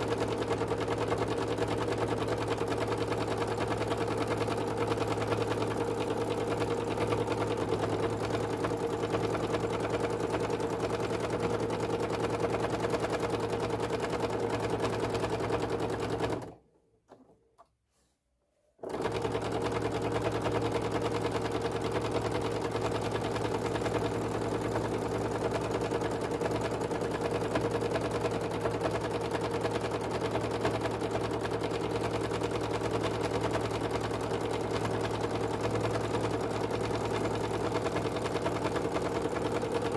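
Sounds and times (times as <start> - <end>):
sewing machine running: 0.0 - 16.6, 18.8 - 39.9.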